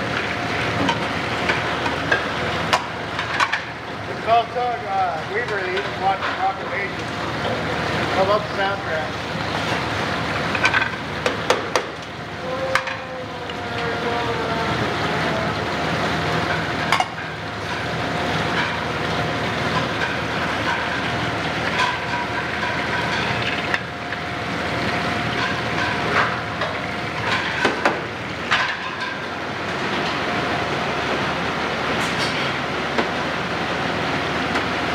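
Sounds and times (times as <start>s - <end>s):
conveyor running: 0.0s - 34.9s.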